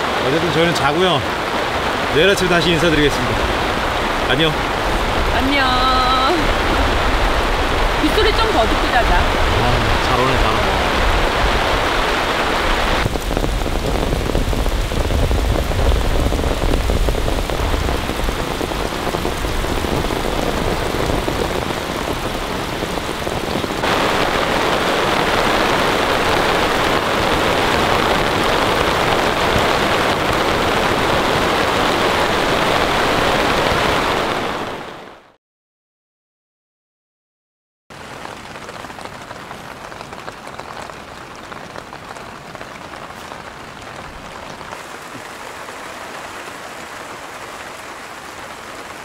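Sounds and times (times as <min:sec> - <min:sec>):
heavy rain pouring: 0:00.0 - 0:35.4, 0:37.9 - 0:49.0.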